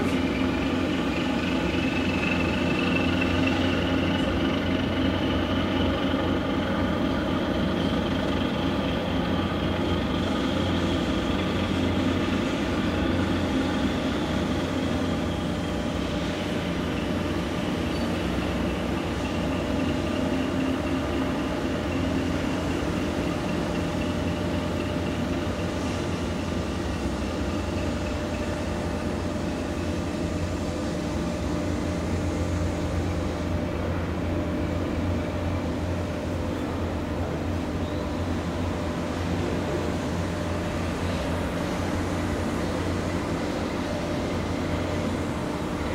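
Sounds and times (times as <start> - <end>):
tugboat diesel engines droning: 0.0 - 45.9.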